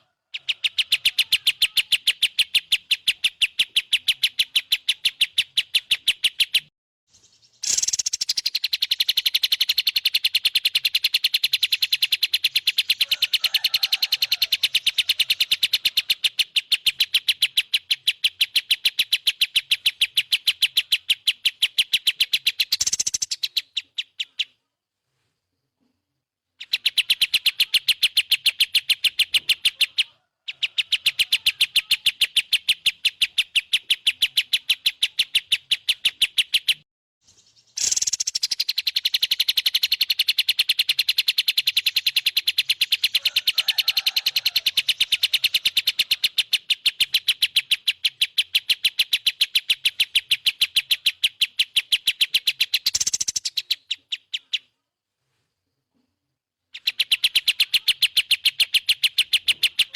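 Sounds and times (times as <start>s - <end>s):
songbird rapid trill: 0.0s - 24.7s, 26.6s - 54.8s, 56.7s - 59.9s.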